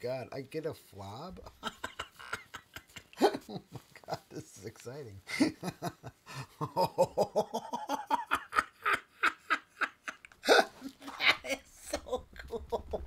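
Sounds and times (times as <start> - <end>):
person giggling: 1.5 - 4.6, 5.3 - 13.0.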